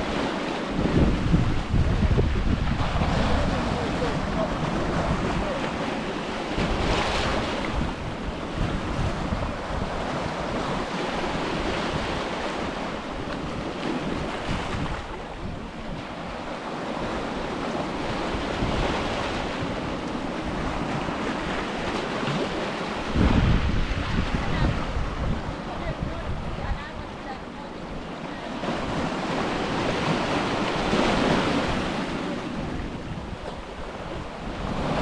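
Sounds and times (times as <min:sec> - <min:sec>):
ocean surf washing on beach: 0:00.0 - 0:35.0
wind buffeting microphone: 0:00.0 - 0:35.0.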